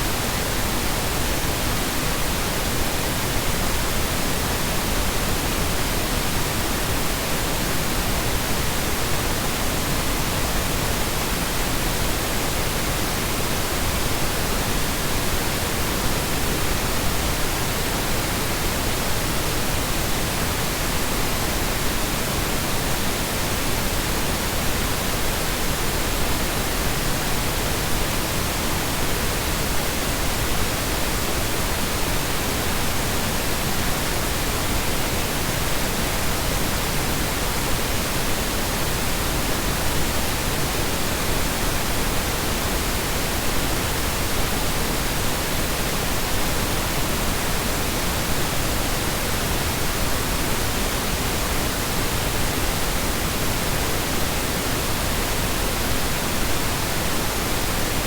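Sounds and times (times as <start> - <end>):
steady brownian noise hiss: 0.0 - 58.0.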